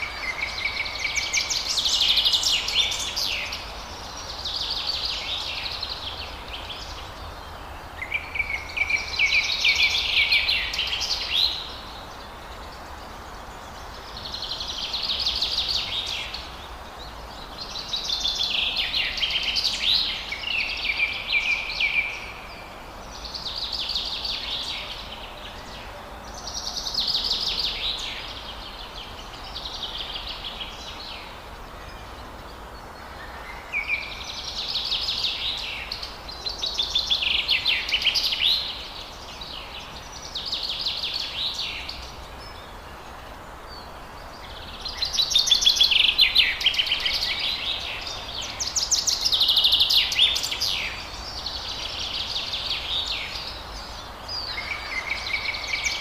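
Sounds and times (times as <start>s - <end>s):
songbirds trilling: 0.0s - 56.0s
steady background hiss: 0.0s - 56.0s.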